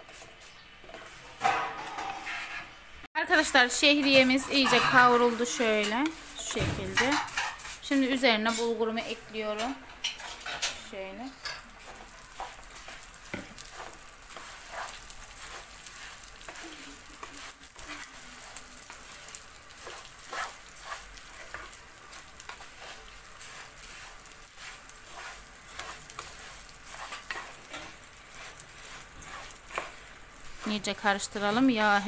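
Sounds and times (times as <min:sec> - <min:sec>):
grains sizzling in oil: 0:03.1 - 0:32.0
spoon scraping a pot: 0:03.8 - 0:32.0.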